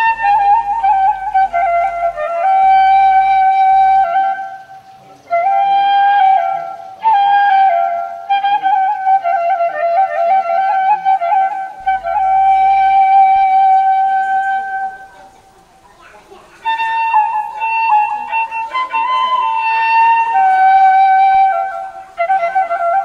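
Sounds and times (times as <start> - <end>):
solo flute melody: 0.0 - 15.8, 16.5 - 23.0.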